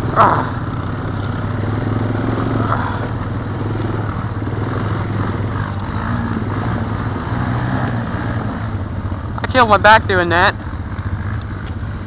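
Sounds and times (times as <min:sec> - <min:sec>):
atv engine droning: 0:00.0 - 0:12.0.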